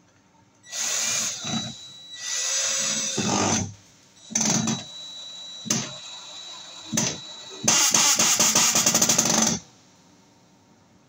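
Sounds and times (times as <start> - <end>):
cordless drill motor whine: 0.7 - 9.6.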